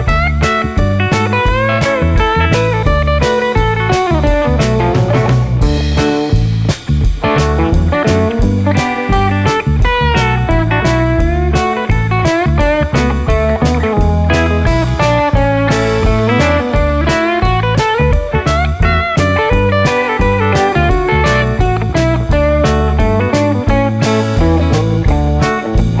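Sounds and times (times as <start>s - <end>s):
blues-rock electric guitar music: 0.0s - 26.0s.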